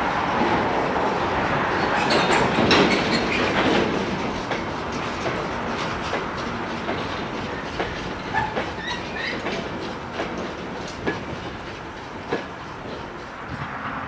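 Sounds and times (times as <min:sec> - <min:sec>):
train rumble: 0:00.0 - 0:14.0
wheels clanking over rail joints: 0:00.3 - 0:14.0.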